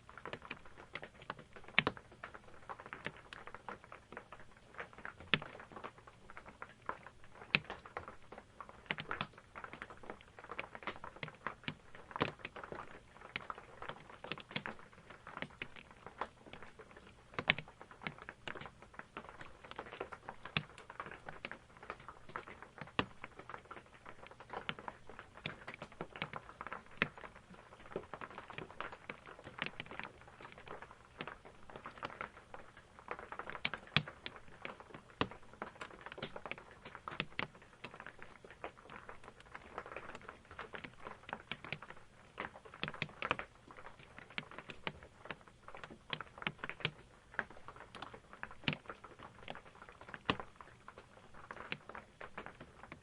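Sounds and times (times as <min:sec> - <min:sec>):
rain pattering on roof: 0:00.0 - 0:53.0.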